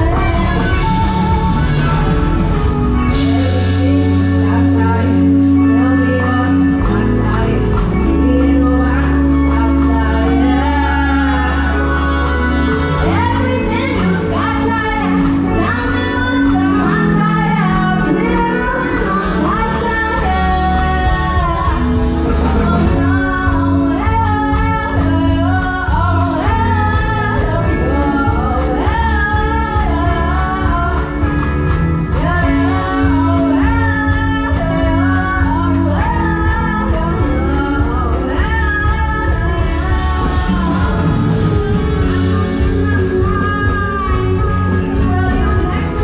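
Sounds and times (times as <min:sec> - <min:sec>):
band with bass and beat: 0:00.0 - 0:46.0
woman singing: 0:00.0 - 0:46.0.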